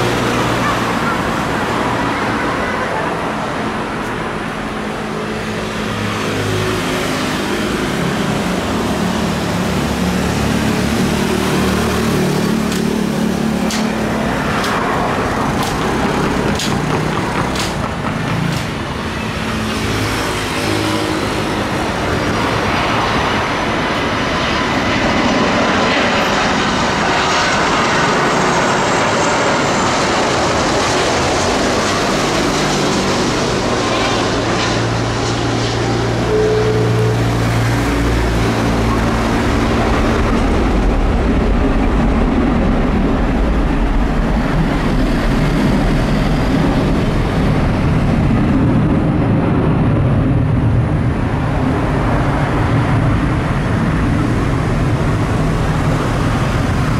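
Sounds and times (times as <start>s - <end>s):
airliner jet engines roaring: 0.0s - 56.9s
cars and motorbikes passing: 0.0s - 56.9s.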